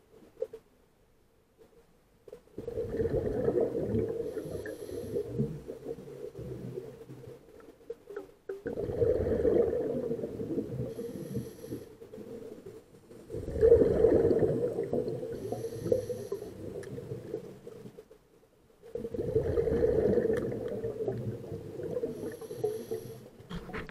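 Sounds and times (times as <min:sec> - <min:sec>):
underwater exhaled bubbles: 0:02.6 - 0:18.0, 0:18.8 - 0:23.9.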